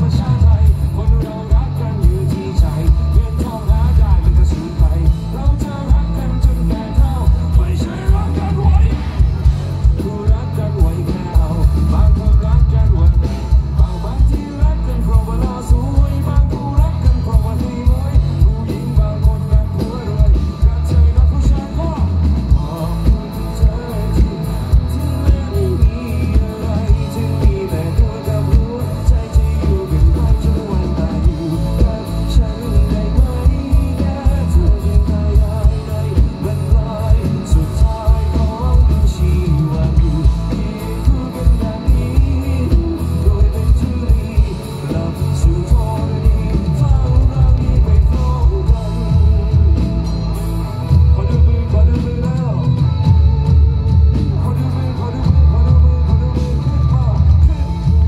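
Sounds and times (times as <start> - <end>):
man singing: 0.0 - 58.0
rock band playing: 0.0 - 58.0.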